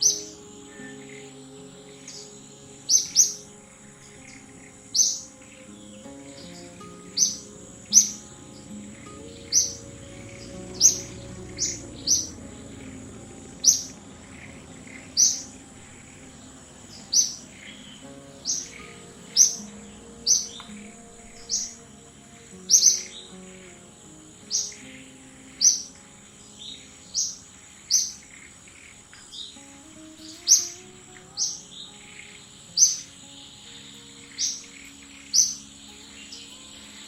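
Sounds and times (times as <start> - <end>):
bird chirping: 0.0 - 37.0
steady high-pitched whine: 0.0 - 37.0.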